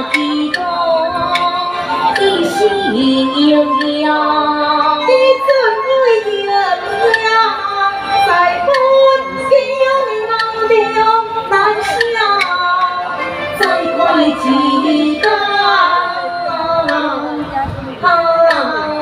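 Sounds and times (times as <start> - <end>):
instrumental accompaniment: 0.0 - 19.0
woman singing gliding melody: 0.0 - 19.0.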